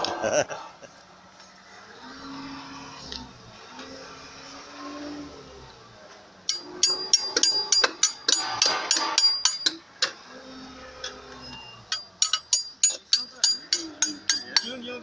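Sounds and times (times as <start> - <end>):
low workshop murmur: 0.0 - 15.0.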